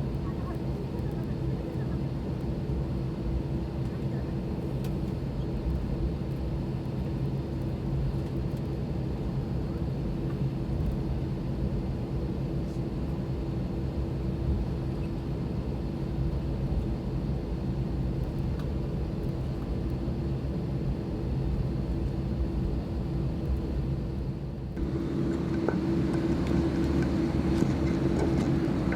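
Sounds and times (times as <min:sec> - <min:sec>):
jet engines idling in cabin: 0:00.0 - 0:28.9.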